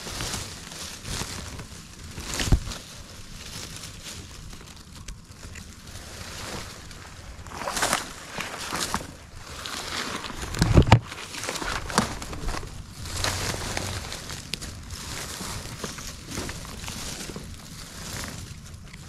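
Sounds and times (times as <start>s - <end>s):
footsteps through leaf litter: 0.0s - 19.0s.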